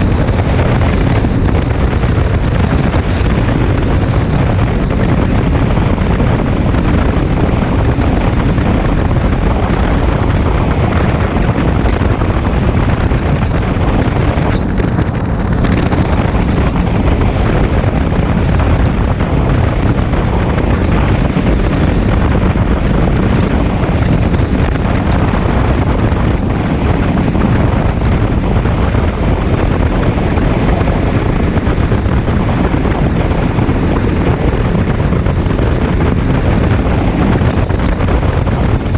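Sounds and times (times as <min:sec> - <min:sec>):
atv engine running: 0:00.0 - 0:38.9
wind buffeting microphone: 0:00.0 - 0:38.9.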